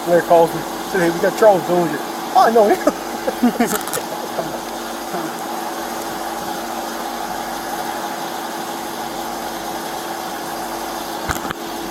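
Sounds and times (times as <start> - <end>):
even hiss: 0.0 - 11.9
vehicle engine idling hum: 0.0 - 11.9.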